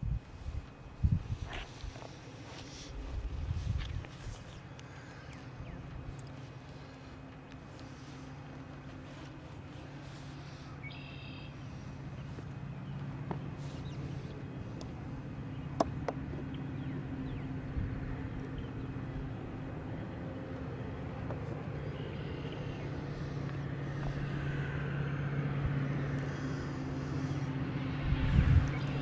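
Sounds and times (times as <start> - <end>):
train engine hum: 0.0 - 29.0.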